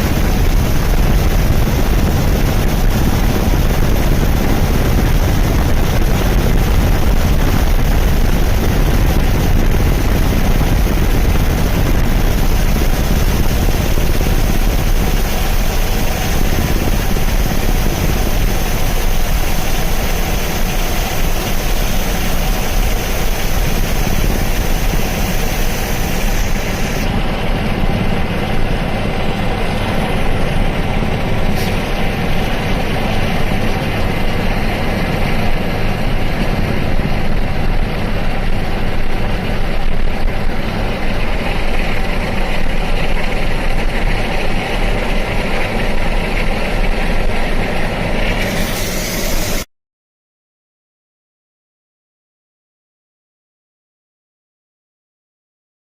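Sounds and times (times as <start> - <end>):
helicopter rotor and engine: 0.0 - 49.6.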